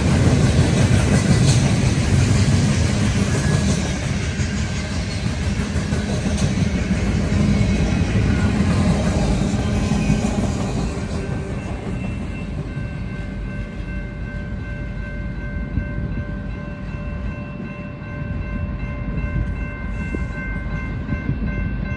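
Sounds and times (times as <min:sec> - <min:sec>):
freight train cars rolling on rails: 0:00.0 - 0:21.9.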